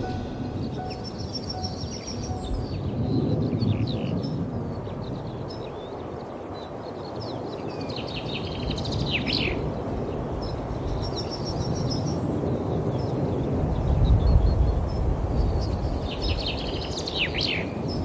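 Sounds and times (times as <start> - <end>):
small birds chirping: 0.0 - 18.0
wind on microphone: 0.0 - 18.0.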